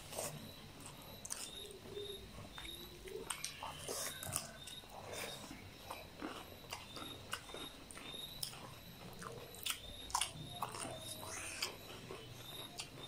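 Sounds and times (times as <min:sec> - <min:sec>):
people chewing raw vegetables: 0:00.0 - 0:13.0.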